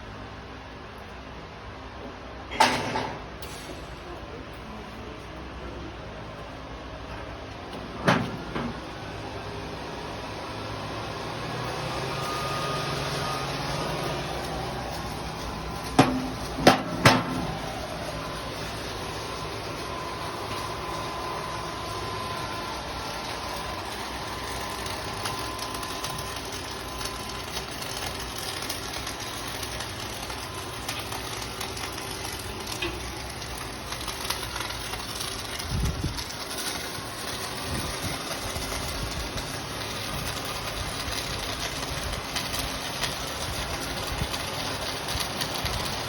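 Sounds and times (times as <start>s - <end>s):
welding arc crackling: 8.2s - 46.0s.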